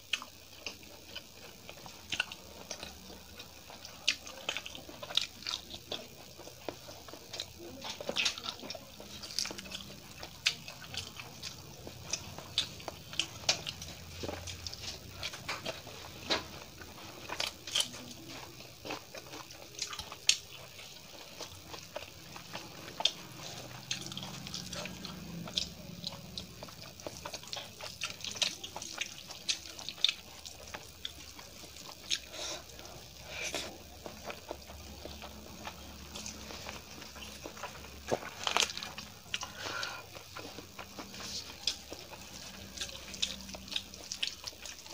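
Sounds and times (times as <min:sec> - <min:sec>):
wet chewing and lip smacking: 0:00.0 - 0:44.9.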